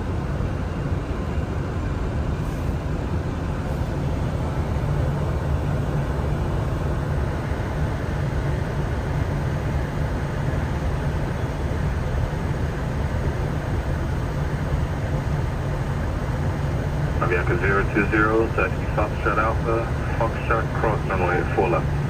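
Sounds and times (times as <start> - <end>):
aircraft cockpit rumble: 3.0 - 22.0.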